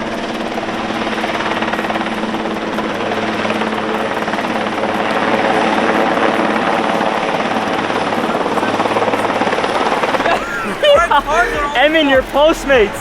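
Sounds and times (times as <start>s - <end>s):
helicopter engine hum: 0.0s - 13.0s
helicopter rotor chopping: 0.0s - 13.0s.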